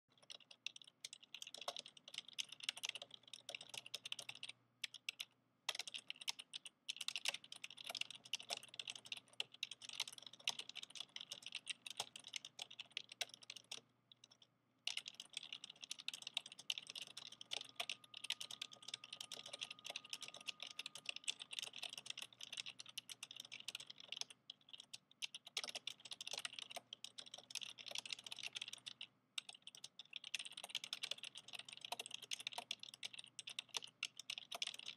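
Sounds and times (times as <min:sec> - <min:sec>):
fast typing on clicky keyboard: 0:00.1 - 0:34.9.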